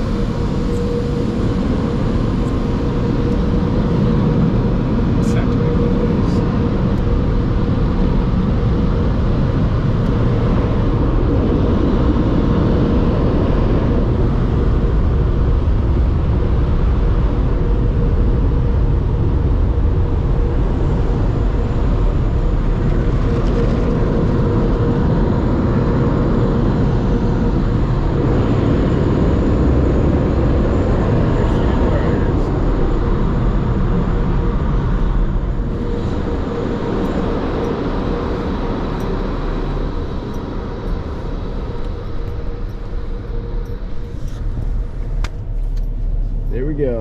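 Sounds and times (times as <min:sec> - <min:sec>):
constant machine hum: 0:00.0 - 0:47.0.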